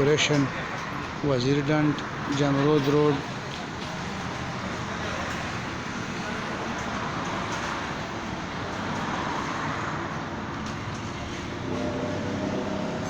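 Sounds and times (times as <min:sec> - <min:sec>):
road traffic noise: 0:00.0 - 0:13.0
vehicle passing: 0:00.0 - 0:13.0.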